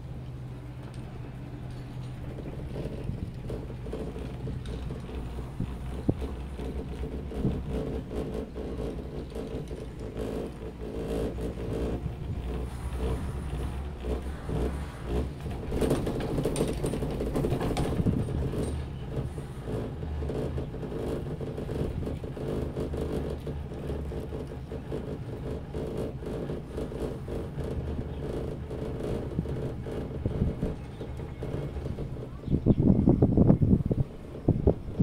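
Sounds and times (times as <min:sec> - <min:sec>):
cable car low rumble and whir: 0:00.0 - 0:35.0
clattering over pylon rollers: 0:00.8 - 0:35.0.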